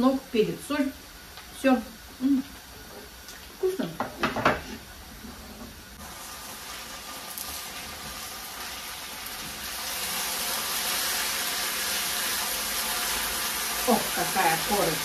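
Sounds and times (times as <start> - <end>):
potatoes sizzling in oil: 0.0 - 15.0.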